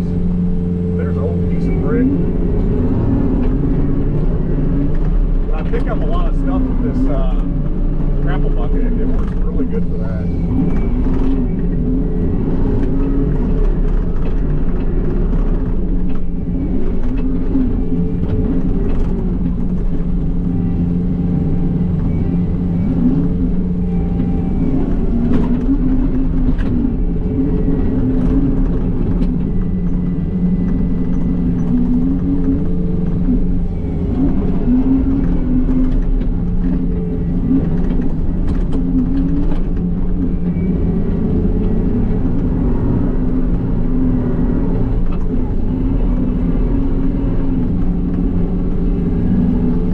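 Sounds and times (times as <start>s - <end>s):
diesel engine under load: 0.0s - 49.9s.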